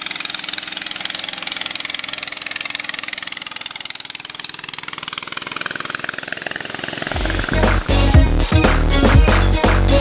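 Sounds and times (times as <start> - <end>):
boat engine puttering: 0.0 - 9.5.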